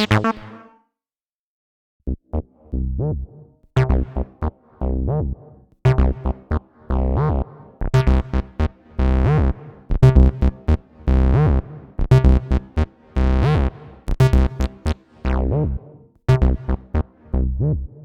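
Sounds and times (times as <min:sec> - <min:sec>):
squelchy acid synth bassline: 0:00.0 - 0:00.7, 0:03.8 - 0:18.0.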